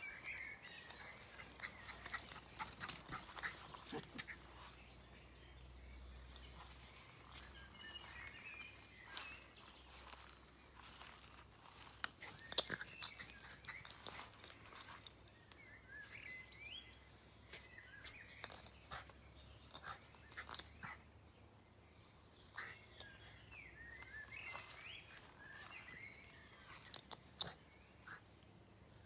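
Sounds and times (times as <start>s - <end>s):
faint birdsong chirping: 0.0s - 29.0s.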